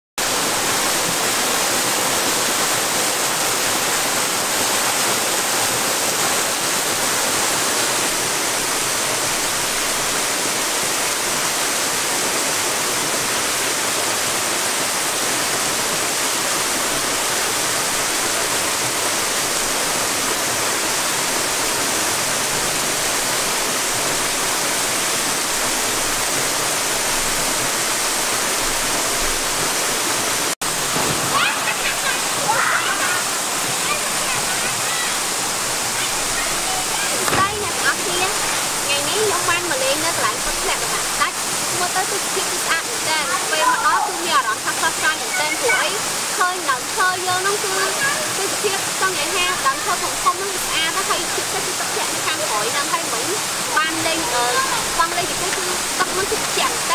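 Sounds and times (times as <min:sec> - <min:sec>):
small waterfall rushing: 0:00.2 - 0:56.9.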